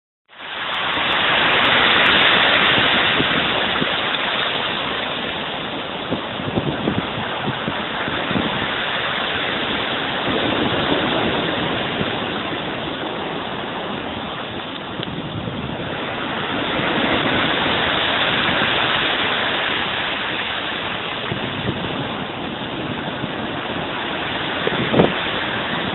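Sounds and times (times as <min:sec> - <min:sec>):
sea waves breaking ashore: 0:00.3 - 0:25.9
low rumbles: 0:00.8 - 0:25.9.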